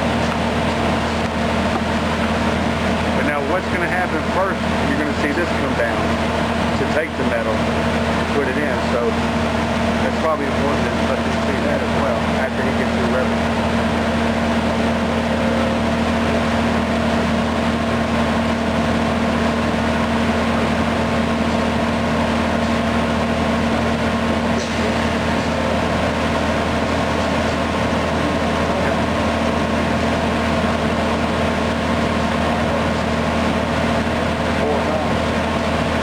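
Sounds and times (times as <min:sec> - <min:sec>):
constant machine whine: 0:00.0 - 0:36.0
machine hum: 0:00.0 - 0:36.0.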